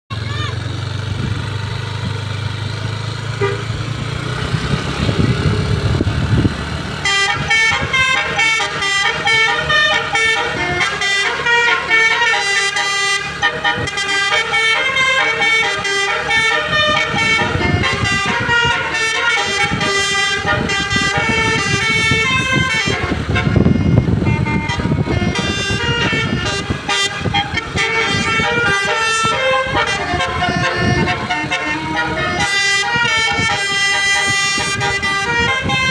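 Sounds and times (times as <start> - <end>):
bus engine rumble: 0.1 - 35.9
bus horn playing a melody: 3.2 - 4.0, 6.9 - 35.9.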